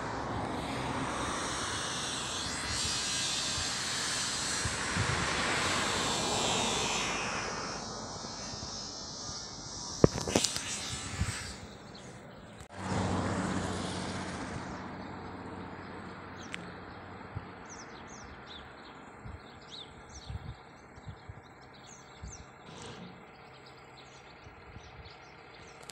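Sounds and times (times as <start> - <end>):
combine harvester engine humming: 0.0 - 25.9
birds chirping: 0.1 - 12.7, 14.8 - 25.9.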